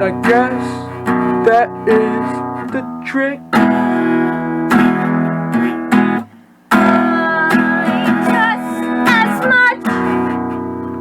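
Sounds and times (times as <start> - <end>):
person singing wordlessly: 0.0 - 5.2, 6.7 - 10.6
acoustic guitar strumming: 0.0 - 11.0.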